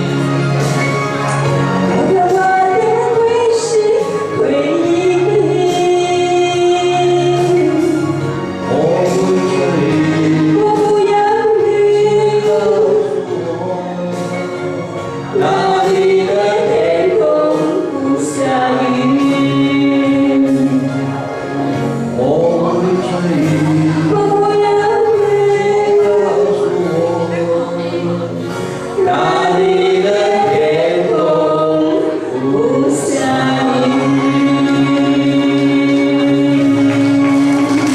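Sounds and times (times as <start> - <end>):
instrumental accompaniment: 0.0 - 37.9
person singing: 0.0 - 37.9.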